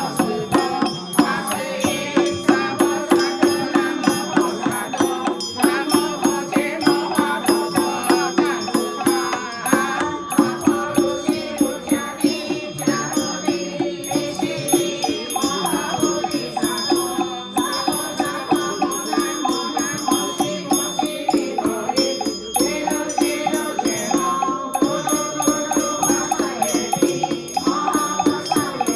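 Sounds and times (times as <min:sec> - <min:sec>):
bells ringing: 0:00.0 - 0:28.9
steady percussion strikes: 0:00.0 - 0:28.9.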